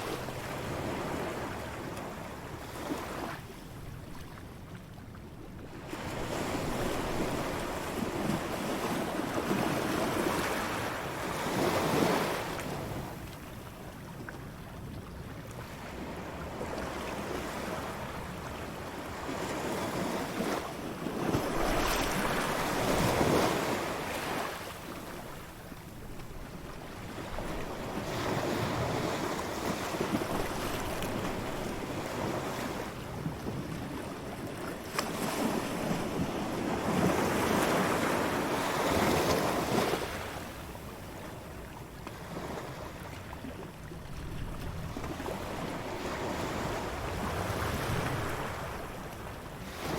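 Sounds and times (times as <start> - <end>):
waves breaking on a beach: 0.0 - 49.9.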